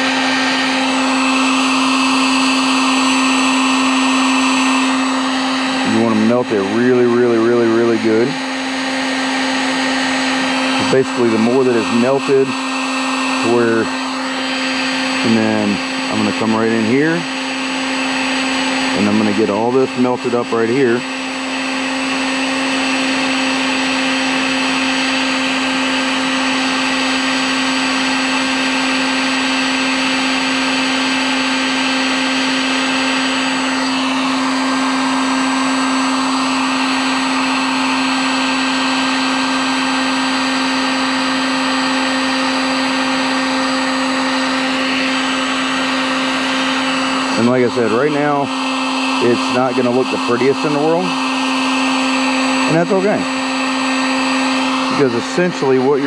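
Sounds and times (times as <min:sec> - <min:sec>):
heat gun running: 0:00.0 - 0:56.0.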